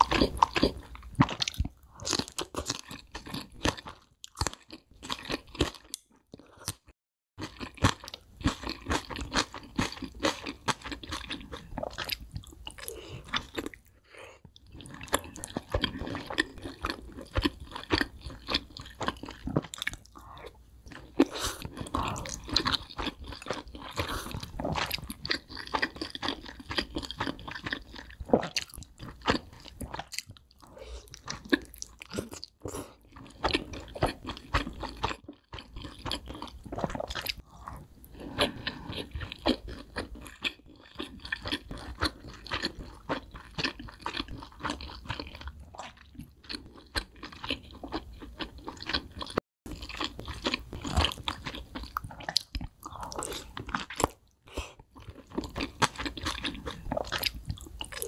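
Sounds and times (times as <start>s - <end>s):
chewing crispy chicken: 0.0s - 13.9s, 14.5s - 58.0s.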